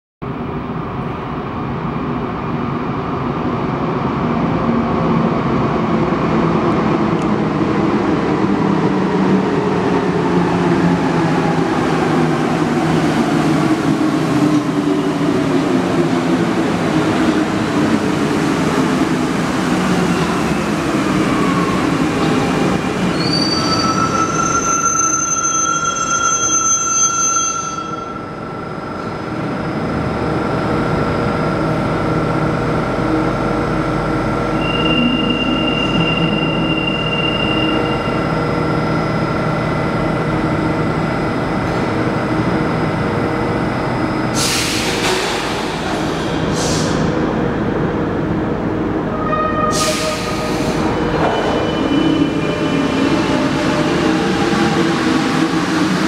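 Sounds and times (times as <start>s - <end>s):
metro train rumbling and braking: 0.2s - 56.0s.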